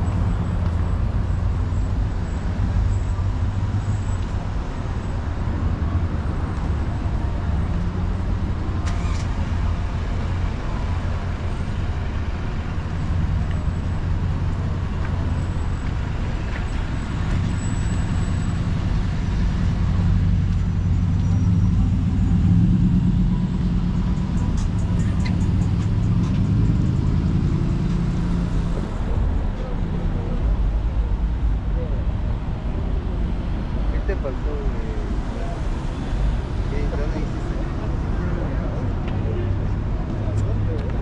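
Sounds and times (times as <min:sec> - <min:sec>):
traffic engine rumble: 0:00.0 - 0:41.0.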